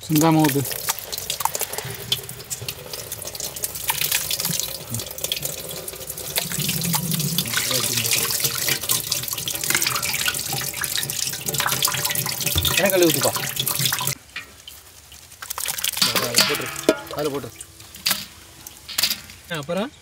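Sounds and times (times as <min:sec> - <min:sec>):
juice pouring into metal pot: 0:00.0 - 0:19.6
drips and splashes: 0:00.0 - 0:20.0.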